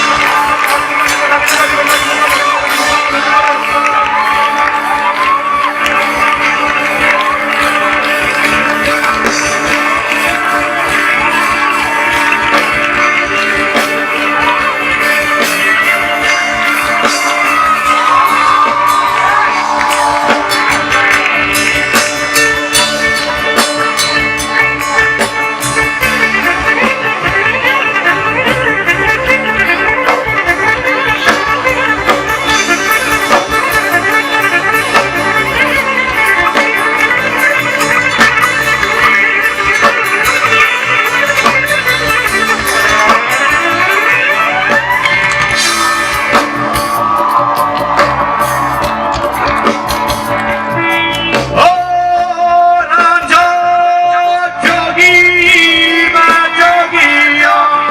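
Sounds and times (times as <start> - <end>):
steady beat: 0.0 - 56.8
band playing amplified plucked strings: 0.0 - 57.9.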